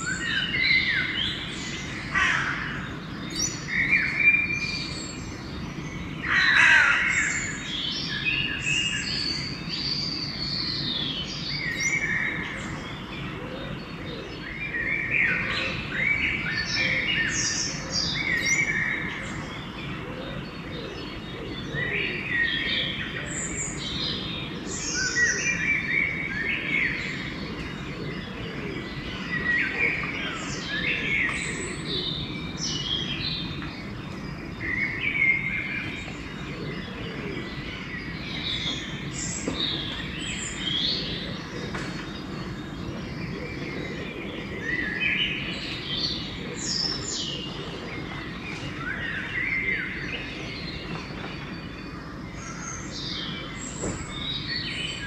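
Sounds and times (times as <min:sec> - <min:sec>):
low background noise: 0:00.0 - 0:55.0
songbirds chirping: 0:00.0 - 0:55.0.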